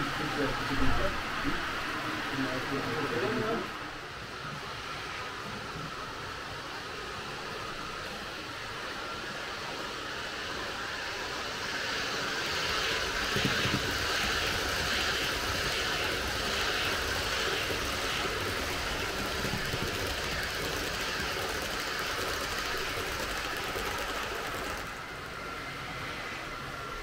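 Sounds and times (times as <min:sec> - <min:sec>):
model train wheels rumbling: 0:00.0 - 0:25.5
thin steady whine: 0:00.0 - 0:27.0.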